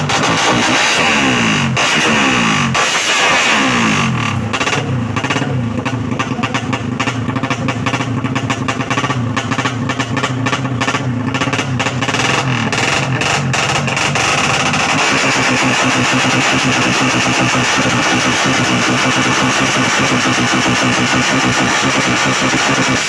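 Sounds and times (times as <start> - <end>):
motorcycle engine crackling: 0.0 - 23.0.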